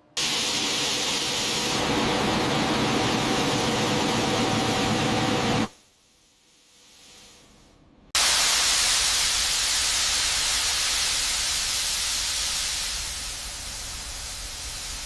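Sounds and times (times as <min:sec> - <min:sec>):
loud machinery hiss: 0:00.2 - 0:05.7, 0:08.2 - 0:15.0.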